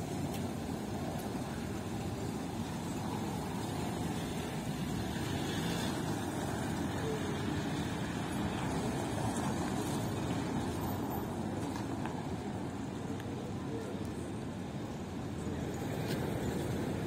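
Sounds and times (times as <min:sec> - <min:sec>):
car rumbling over cobblestones: 0:00.0 - 0:17.0.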